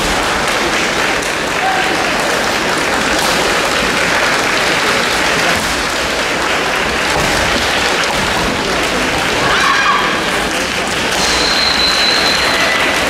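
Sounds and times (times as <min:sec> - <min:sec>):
spectators clapping: 0:00.0 - 0:13.0.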